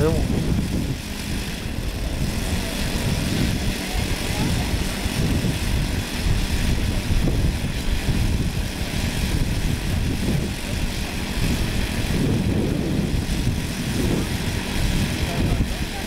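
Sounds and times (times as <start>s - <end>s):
model aircraft engines running: 0.0s - 16.0s.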